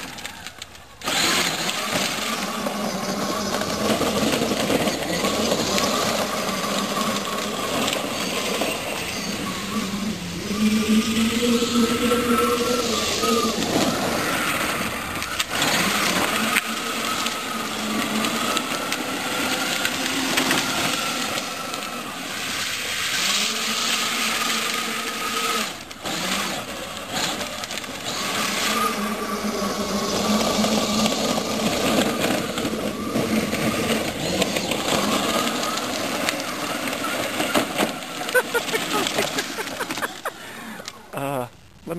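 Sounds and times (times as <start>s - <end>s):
plastic wheels grinding on asphalt: 0.0s - 41.1s
electric motors whining: 0.0s - 41.2s.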